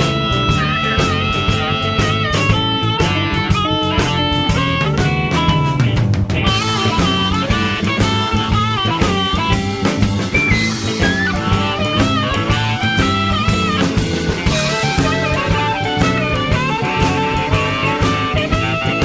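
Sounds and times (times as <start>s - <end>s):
drum kit beat: 0.0s - 19.0s
rock music with electric guitar: 0.0s - 19.0s.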